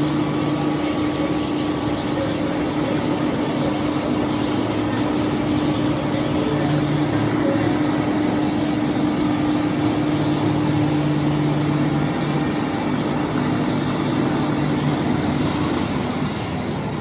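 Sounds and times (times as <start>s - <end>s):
lift drive humming: 0.0s - 17.0s.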